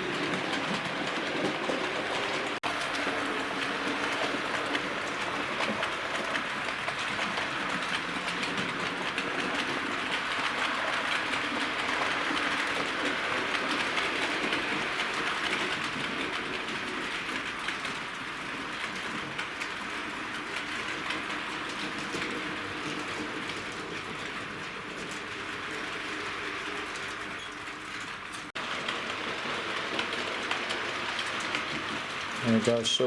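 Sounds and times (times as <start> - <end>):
wheels clicking over rails: 0.0 - 33.0.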